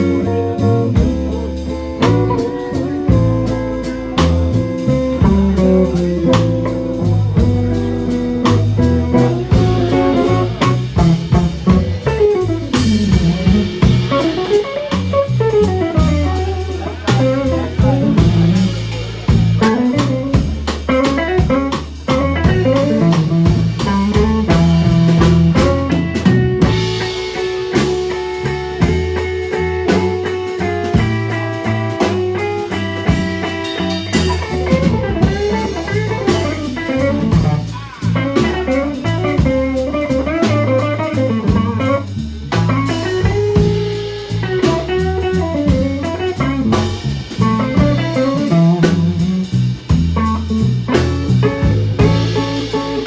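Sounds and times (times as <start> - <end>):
drum kit: 0.0 - 53.0
electric bass: 0.0 - 53.0
electric guitar lead: 0.0 - 53.0.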